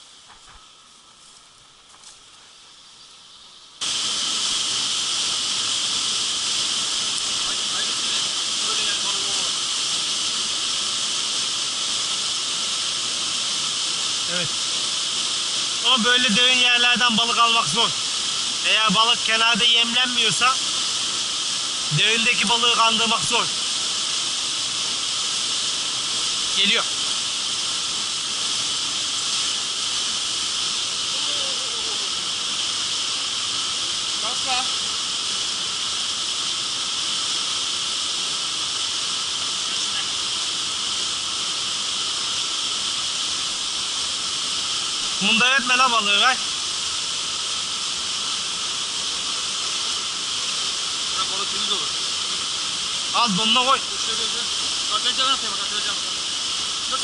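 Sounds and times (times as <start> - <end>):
stream flowing over pebbles: 3.8 - 57.0.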